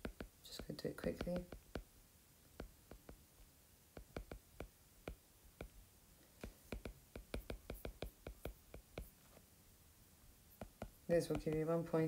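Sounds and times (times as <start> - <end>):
stylus tapping on tablet screen: 0.0 - 9.4, 10.5 - 12.0.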